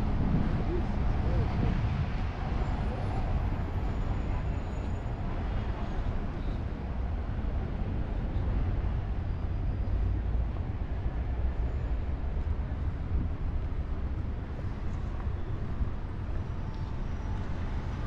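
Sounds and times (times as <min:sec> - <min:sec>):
city street rumble: 0:00.0 - 0:18.0.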